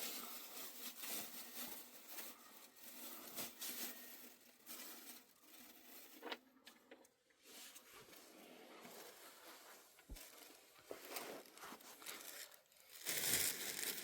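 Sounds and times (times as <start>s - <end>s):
faint rustling and pattering: 0.0s - 14.0s.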